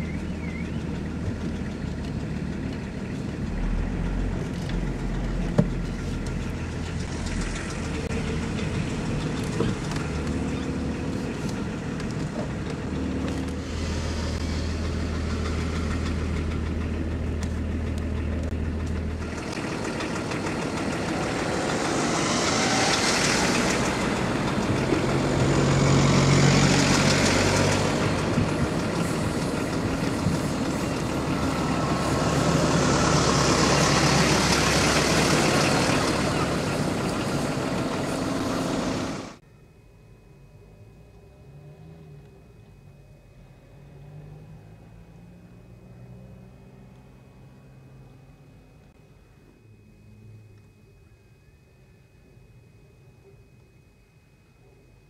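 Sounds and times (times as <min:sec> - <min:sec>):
vehicles passing by: 0:00.0 - 0:39.4, 0:43.4 - 0:49.1
car engine humming in cabin: 0:00.0 - 0:53.8.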